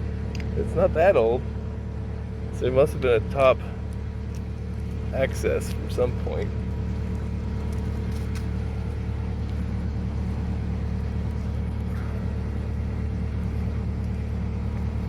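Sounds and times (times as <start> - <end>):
sawmill engine droning: 0.0 - 15.0.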